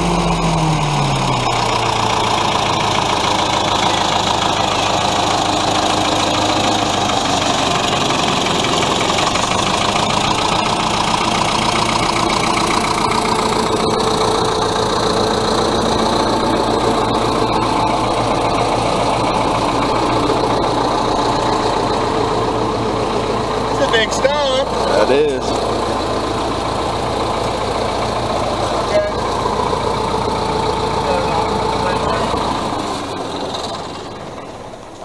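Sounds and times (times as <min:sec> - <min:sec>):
diesel engine running steadily: 0:00.0 - 0:35.0.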